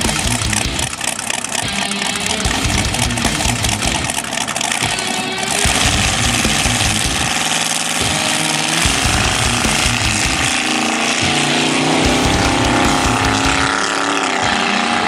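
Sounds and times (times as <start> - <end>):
drag racing cars accelerating: 0.0 - 15.0.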